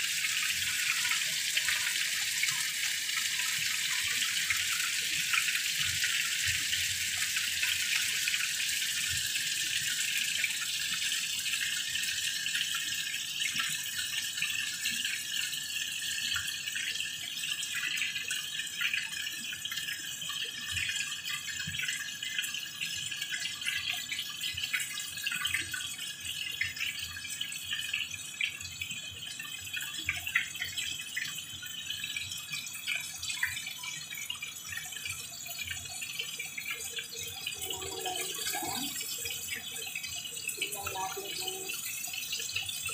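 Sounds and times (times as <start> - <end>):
chicken sizzling in a frying pan: 0.0 - 42.9.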